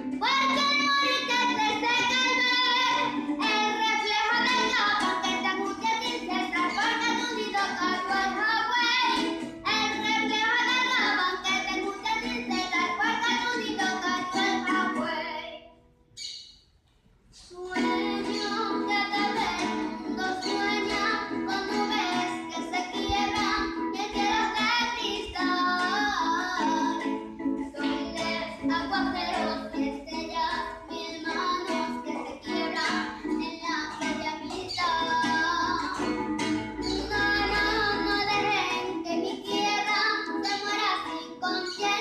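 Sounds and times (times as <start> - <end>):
person singing: 0.0 - 15.6, 17.4 - 42.0
plucked strings: 0.0 - 15.6, 17.6 - 42.0.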